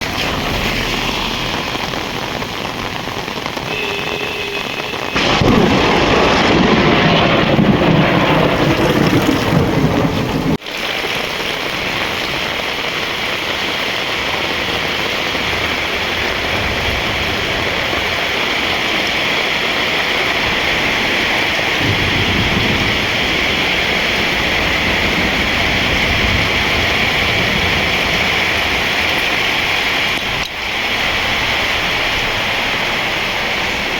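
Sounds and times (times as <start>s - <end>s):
heavy rain: 0.0s - 33.9s
thunder rumble: 5.1s - 13.2s, 14.0s - 33.9s.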